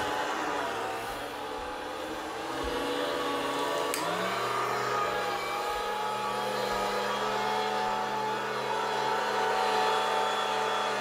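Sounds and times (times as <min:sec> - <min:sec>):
electric meat grinder motor whine: 0:00.0 - 0:11.0.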